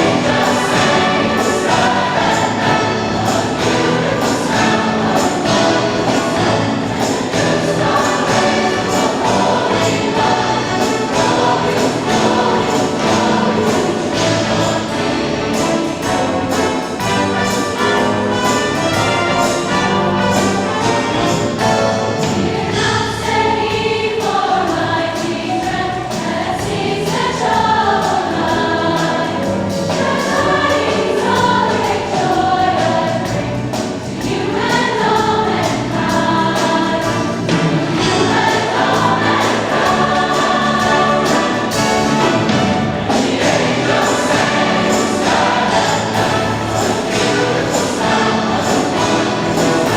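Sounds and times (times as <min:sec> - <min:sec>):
choir singing: 0:00.0 - 0:49.9
instrumental accompaniment: 0:00.0 - 0:49.9.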